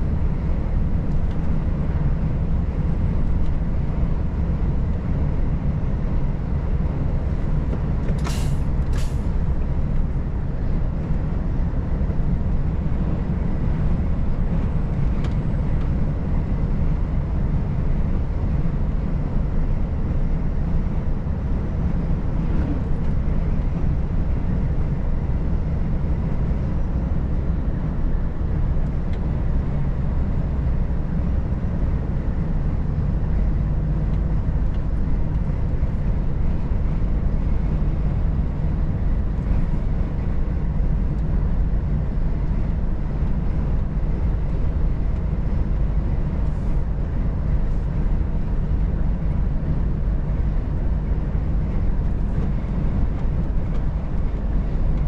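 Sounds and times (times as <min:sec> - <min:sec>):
road noise: 0:00.0 - 0:55.0
truck diesel engine droning: 0:00.0 - 0:55.0.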